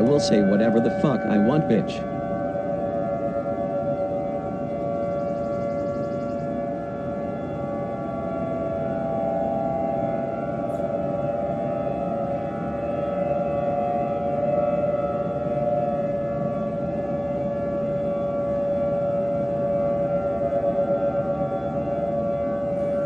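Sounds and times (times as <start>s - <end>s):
warning siren steady wail: 0.0s - 23.0s.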